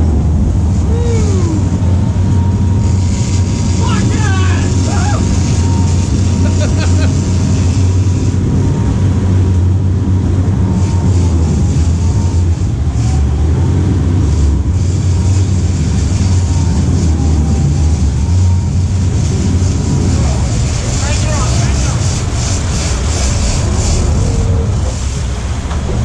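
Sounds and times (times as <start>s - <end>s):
boat engines droning: 0.0s - 26.0s
faint wavering whine: 0.0s - 26.0s
wake water rushing: 0.0s - 26.0s
wind: 0.0s - 26.0s.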